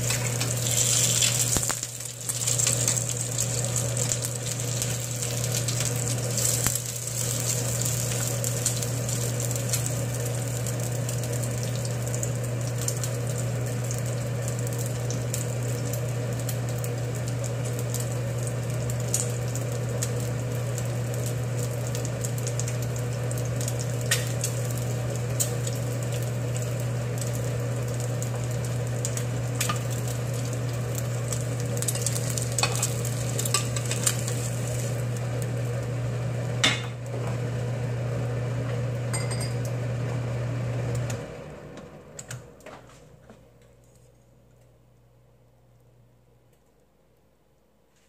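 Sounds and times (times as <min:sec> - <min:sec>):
rice sizzling in frying pan: 0:00.0 - 0:41.7.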